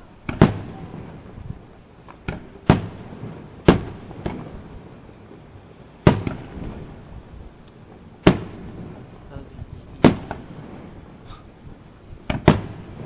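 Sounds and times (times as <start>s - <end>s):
firework bangs with rumbling echo: 0.0s - 5.4s, 6.0s - 7.6s, 8.2s - 13.0s.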